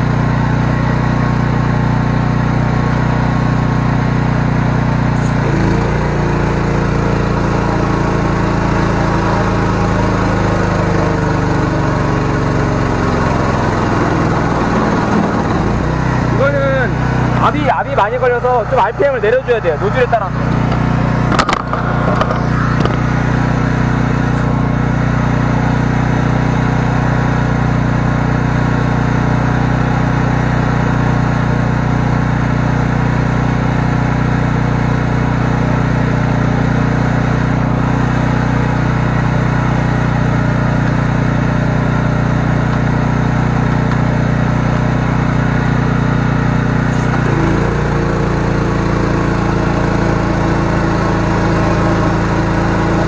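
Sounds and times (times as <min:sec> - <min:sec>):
engine running under load: 0:00.0 - 0:53.0.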